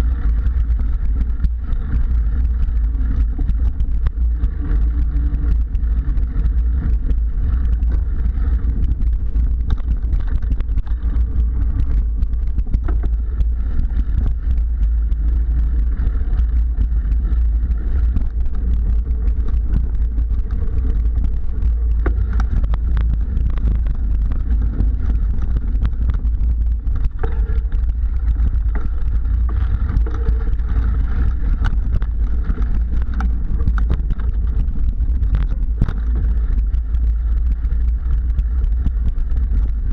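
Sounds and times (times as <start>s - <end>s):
bike clicks and rattles: 0.0s - 39.9s
wind and tyre rumble: 0.0s - 39.9s.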